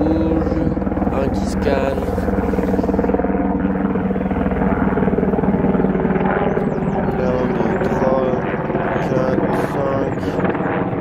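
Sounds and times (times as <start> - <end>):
engine droning with fast pulsing: 0.0 - 11.0.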